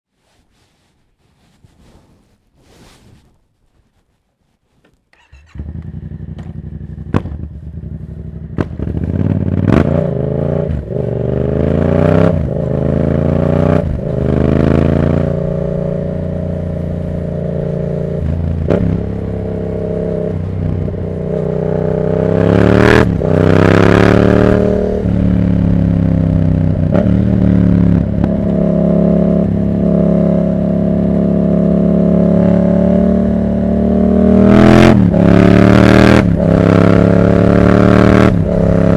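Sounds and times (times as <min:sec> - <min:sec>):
motorcycle engine revving: 0:05.1 - 0:38.9.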